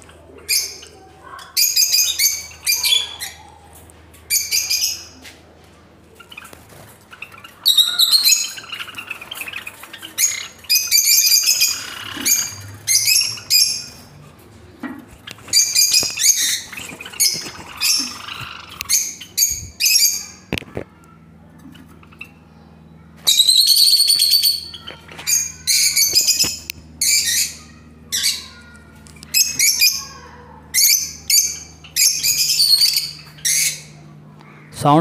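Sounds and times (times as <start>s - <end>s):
lovebirds screeching chirps: 0.4s - 3.6s, 4.3s - 5.2s, 6.2s - 14.2s, 15.2s - 20.5s, 23.2s - 35.0s.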